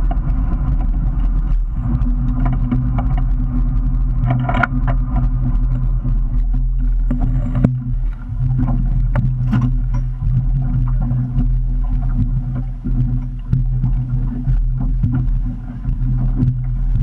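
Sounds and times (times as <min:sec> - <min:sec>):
motorboat engine idling: 0:00.0 - 0:17.0.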